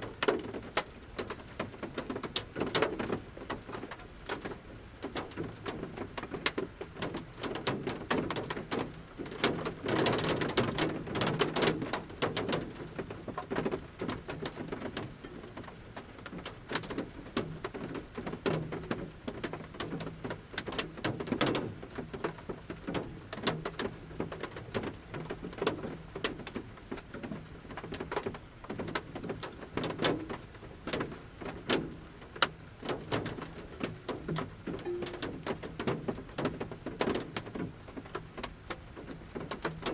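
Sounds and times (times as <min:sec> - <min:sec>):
light rain hiss: 0:00.0 - 0:39.9
raindrops pattering on metal roof: 0:00.0 - 0:39.9.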